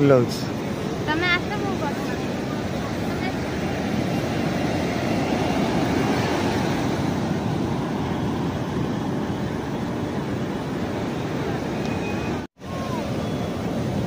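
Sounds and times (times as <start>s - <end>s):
sea surf rushing: 0.0s - 14.0s.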